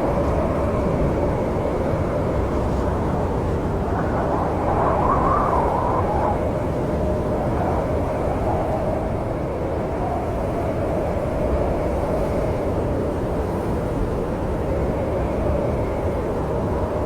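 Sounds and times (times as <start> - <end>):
faint wavering wind howl: 0.0 - 17.0
snowstorm wind rumble: 0.0 - 17.0.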